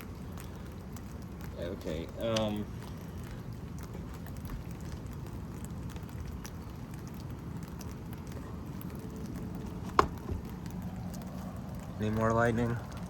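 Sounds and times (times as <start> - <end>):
faint drip ticks: 0.0 - 13.0
steady rain falling: 0.0 - 13.0.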